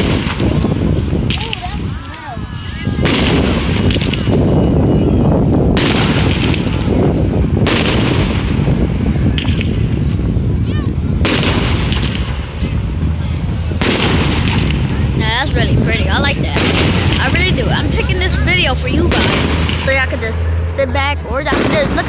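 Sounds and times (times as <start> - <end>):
fireworks bangs: 0.0 - 1.9, 2.8 - 4.7, 5.5 - 10.3, 11.0 - 22.0
fireworks rumble and crackle: 0.0 - 22.0.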